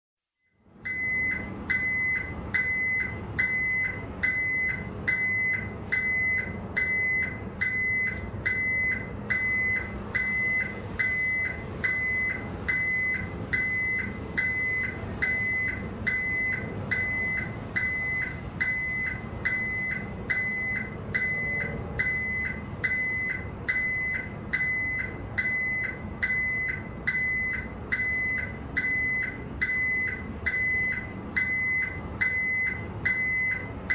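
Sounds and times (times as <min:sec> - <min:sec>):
truck reversing alarm beeping: 0:00.5 - 0:33.9.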